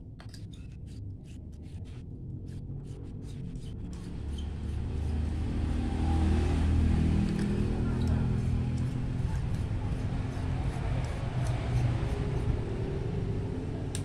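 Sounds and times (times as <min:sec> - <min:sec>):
vehicle engine rumbling: 0:01.8 - 0:14.0.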